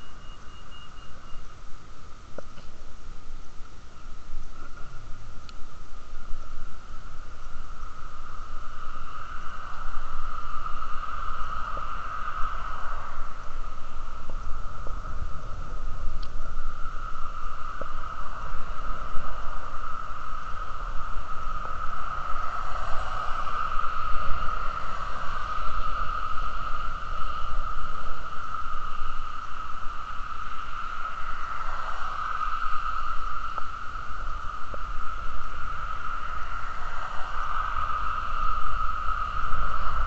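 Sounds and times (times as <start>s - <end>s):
steady high hum: 0.0s - 40.0s
wind rumbling on microphone: 0.0s - 40.0s.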